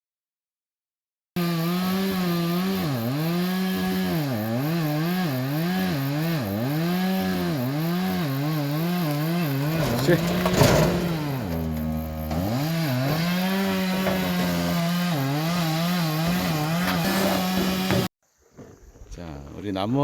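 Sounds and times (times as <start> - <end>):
chainsaw cutting wood: 1.4 - 18.1.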